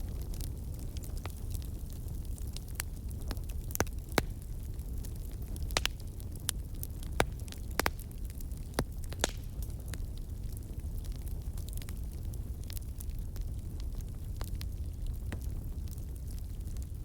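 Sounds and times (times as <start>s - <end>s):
fire pops and snaps: 0.0s - 17.0s
low rumble of burning fire: 0.0s - 17.0s
wood fire crackling: 0.0s - 17.0s.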